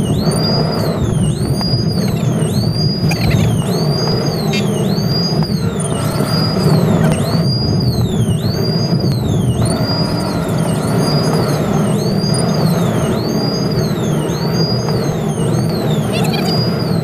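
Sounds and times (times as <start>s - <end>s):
car engine and road rumble: 0.0s - 17.0s
police siren wailing: 0.0s - 17.0s.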